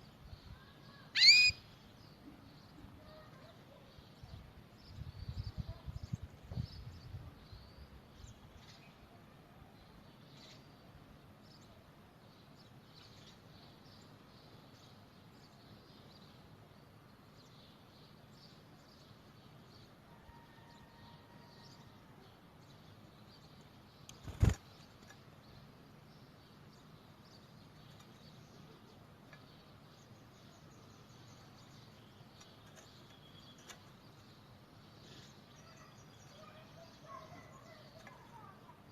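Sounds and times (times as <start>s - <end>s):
small birds chirping: 0.0s - 20.0s, 21.6s - 38.9s.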